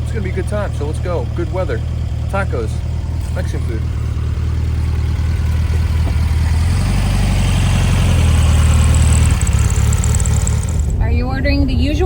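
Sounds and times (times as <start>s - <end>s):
car engine driving off: 0.0s - 12.0s.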